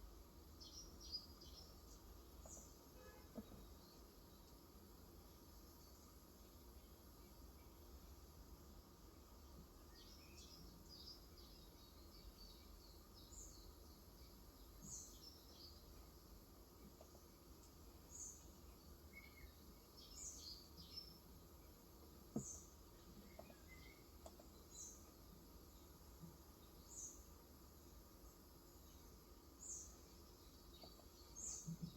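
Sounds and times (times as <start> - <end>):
small birds twittering: 0.4 - 4.7, 5.4 - 31.9.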